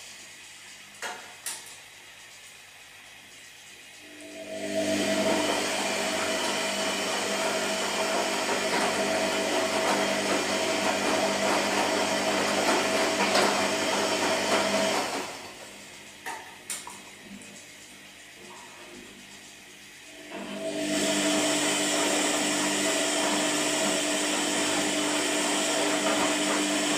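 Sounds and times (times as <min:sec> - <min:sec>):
washing machine motor whining hum: 0:01.9 - 0:26.9.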